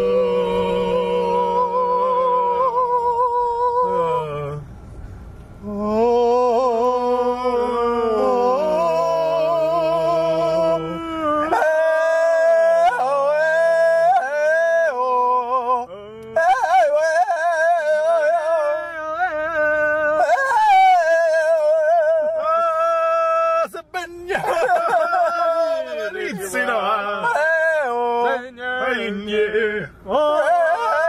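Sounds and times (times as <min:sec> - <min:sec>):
voices in howl-like chant: 0:00.0 - 0:04.6, 0:05.6 - 0:31.0.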